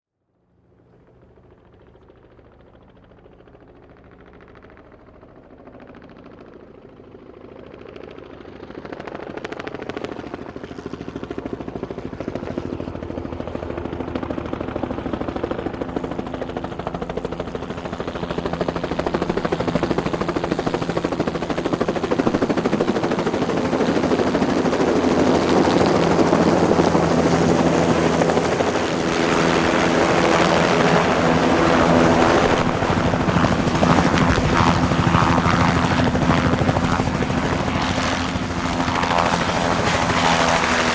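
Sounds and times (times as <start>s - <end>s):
helicopter rotor and turbine: 0.6s - 40.9s.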